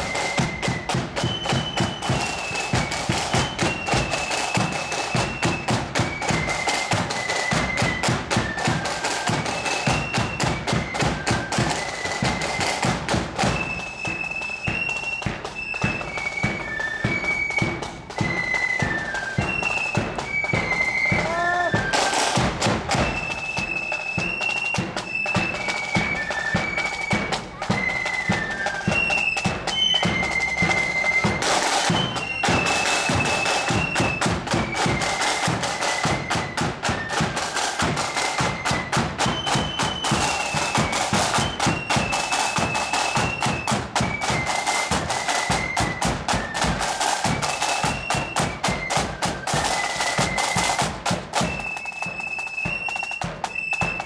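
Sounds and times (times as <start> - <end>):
flute band melody: 0.0 - 54.0.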